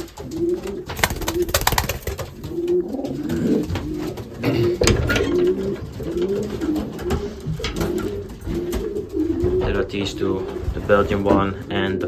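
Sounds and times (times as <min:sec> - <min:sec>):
pigeons cooing: 0:00.0 - 0:11.5
sharp clicks and knocks: 0:00.0 - 0:11.7.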